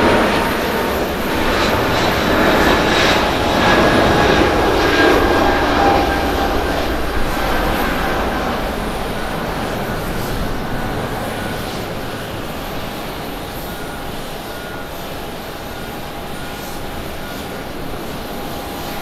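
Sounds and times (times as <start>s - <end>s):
faint engine whine: 0.0s - 19.0s
jet engines roaring: 0.0s - 19.0s.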